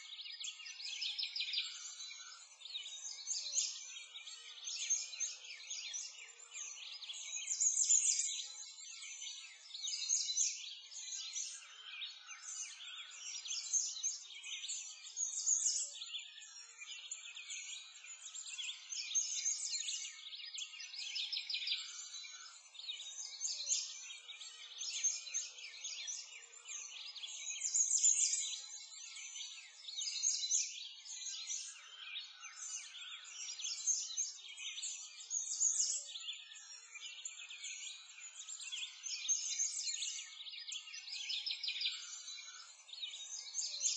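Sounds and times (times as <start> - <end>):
small birds chirping and singing: 0.0 - 43.9.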